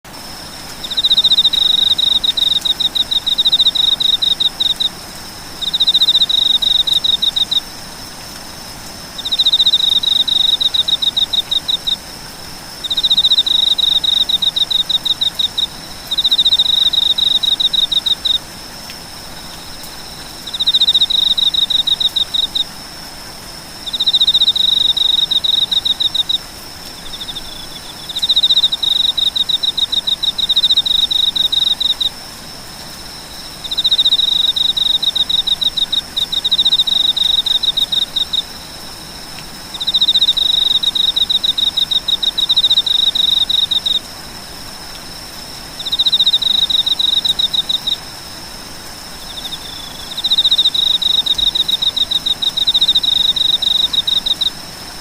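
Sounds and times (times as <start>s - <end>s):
faint background hiss: 0.1s - 55.0s
insect chirping: 0.1s - 55.0s.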